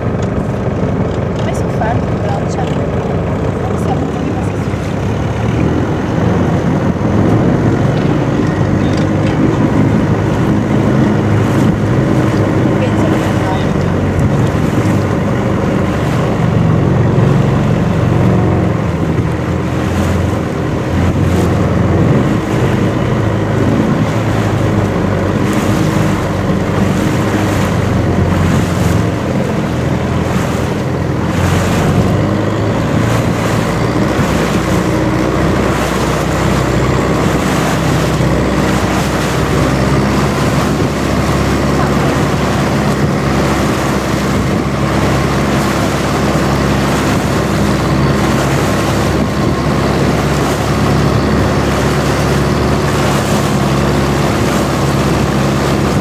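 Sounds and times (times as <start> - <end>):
boat engine running: 0.0 - 56.0
water rushing along hull: 0.0 - 56.0.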